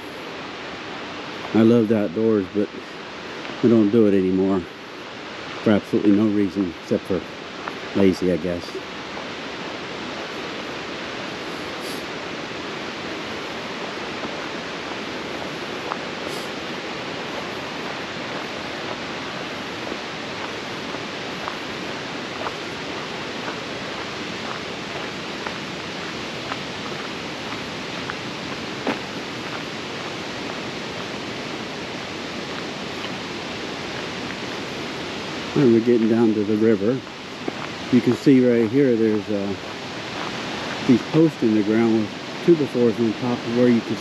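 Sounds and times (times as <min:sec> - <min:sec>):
footsteps on a trail: 0:00.0 - 0:44.0
river rushing: 0:00.0 - 0:44.0.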